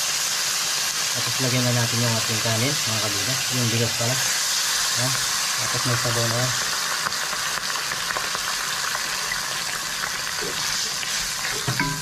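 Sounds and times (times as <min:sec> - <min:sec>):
rice and onions sizzling in oil: 0:00.0 - 0:12.0.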